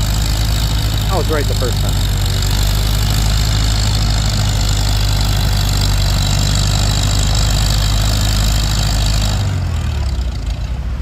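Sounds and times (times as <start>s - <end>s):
tractor engine running hard: 0.0s - 11.0s.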